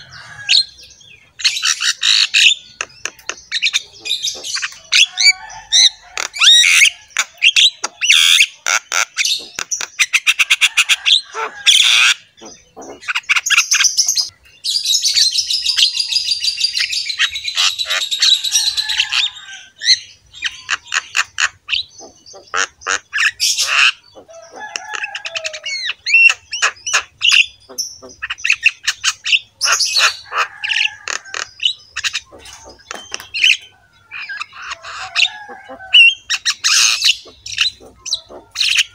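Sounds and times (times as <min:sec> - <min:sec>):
birds squawking and chirping: 0:00.0 - 0:38.9.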